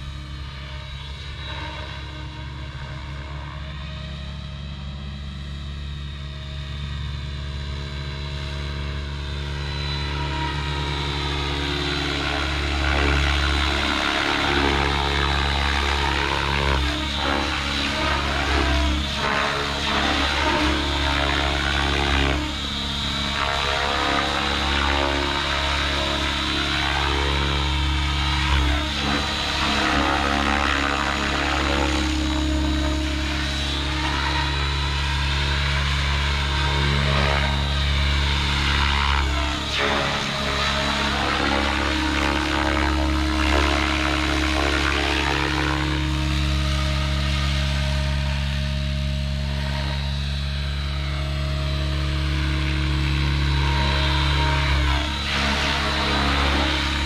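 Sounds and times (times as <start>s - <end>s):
model helicopter rotor humming and whining: 0.0s - 57.0s.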